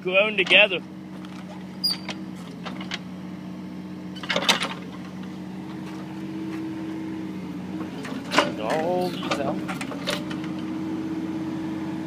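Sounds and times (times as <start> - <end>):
excavator engine humming: 0.0 - 12.0.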